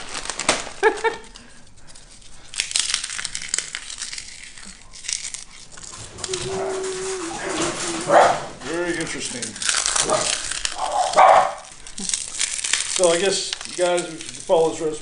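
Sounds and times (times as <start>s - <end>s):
bag crinkling and crunching: 0.0s - 15.0s.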